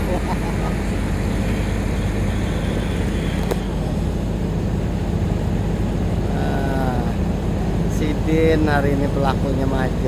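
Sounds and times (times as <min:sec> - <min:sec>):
large engine running steadily: 0:00.0 - 0:10.0.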